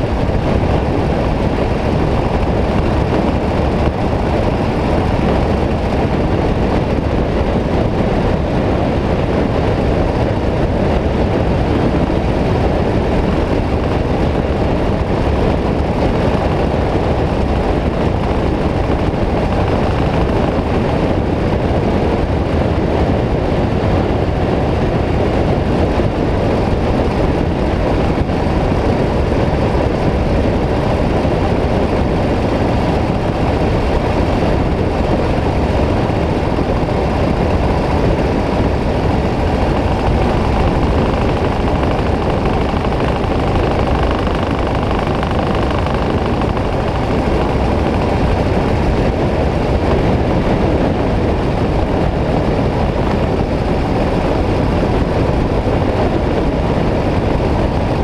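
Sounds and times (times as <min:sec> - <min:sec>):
motorcycle engine running: 0:00.0 - 0:58.0
road noise: 0:00.0 - 0:58.0
wind rush: 0:00.0 - 0:58.0.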